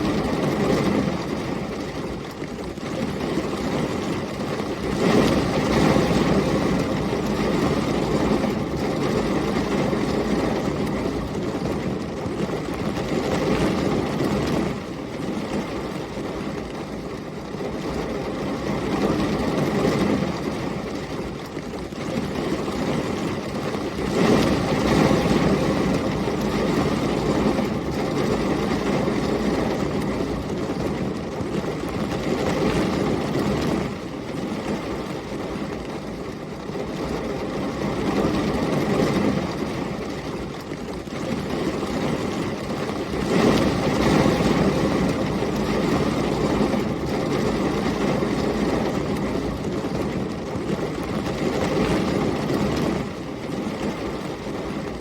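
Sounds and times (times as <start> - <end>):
heavy rain: 0.0 - 55.0
storm wind: 0.0 - 55.0.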